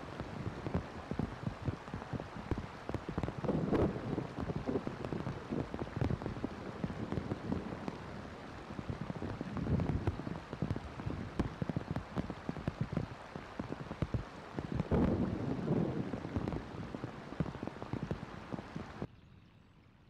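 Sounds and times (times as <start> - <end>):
heavy rain on water: 0.0 - 19.1.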